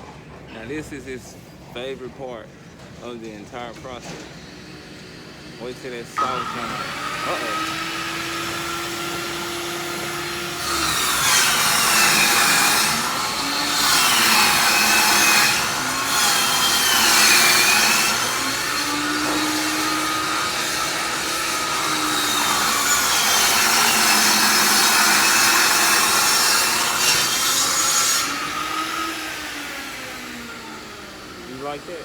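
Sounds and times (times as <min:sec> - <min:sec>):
power saw cutting plywood: 0:04.0 - 0:32.0.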